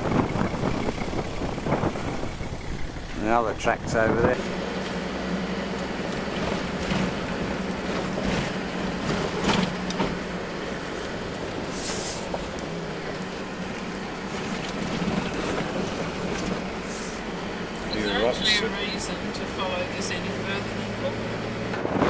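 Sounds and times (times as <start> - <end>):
knocks and rattles over bumps: 0.0 - 17.8
car engine drone: 0.0 - 22.0
road noise: 0.0 - 22.0.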